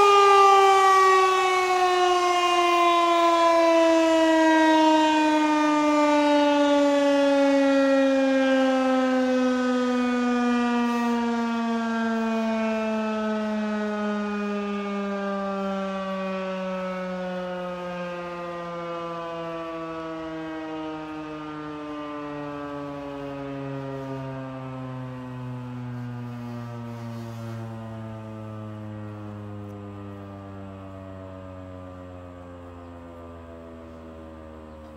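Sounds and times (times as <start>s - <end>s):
siren winding down: 0.0s - 34.9s.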